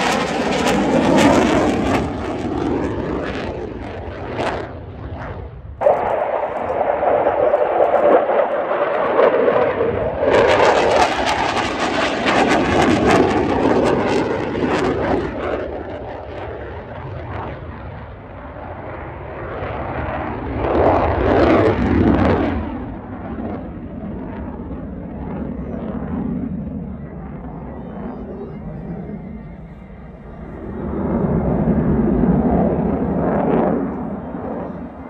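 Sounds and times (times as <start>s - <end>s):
fighter jet engine roaring: 0.0s - 35.0s.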